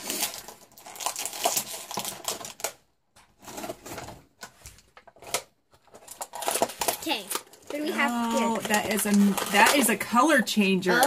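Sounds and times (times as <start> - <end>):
plastic toys and packaging handled: 0.0 - 11.0.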